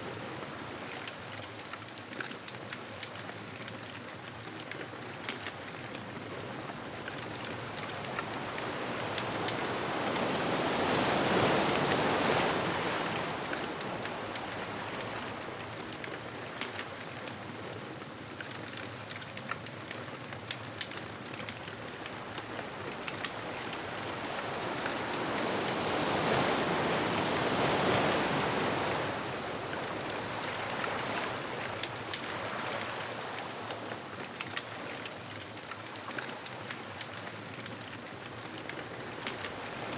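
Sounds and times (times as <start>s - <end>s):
ocean waves on a beach: 0.0s - 39.9s
bonfire crackling: 0.1s - 39.9s.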